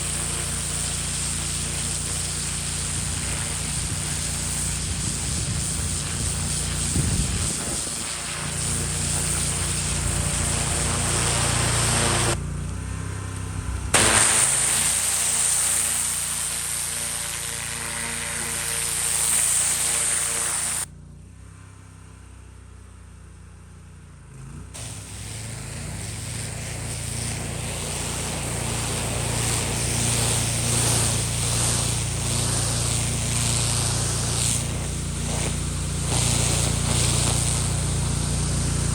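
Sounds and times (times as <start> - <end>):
water spraying concrete: 0.0 - 12.4, 13.9 - 20.9, 24.8 - 38.9
pressure washer motor running: 0.0 - 13.0, 13.6 - 20.9, 24.8 - 38.9.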